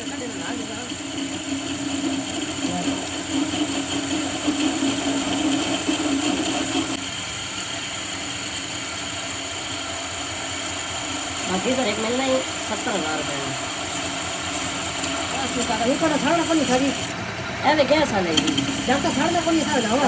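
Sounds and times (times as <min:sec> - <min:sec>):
machine motor hum: 0:00.0 - 0:07.0, 0:08.4 - 0:20.0.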